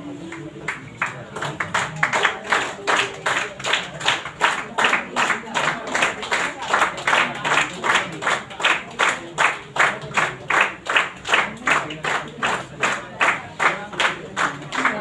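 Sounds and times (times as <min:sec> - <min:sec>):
audience clapping in unison: 0:00.1 - 0:15.0.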